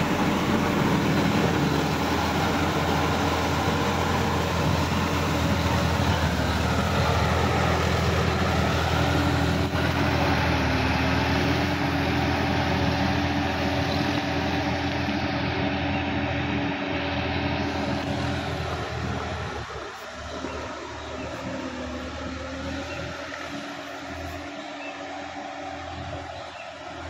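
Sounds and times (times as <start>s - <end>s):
rotary tiller churning mud: 0.0s - 27.0s
tractor engine running: 0.0s - 27.0s.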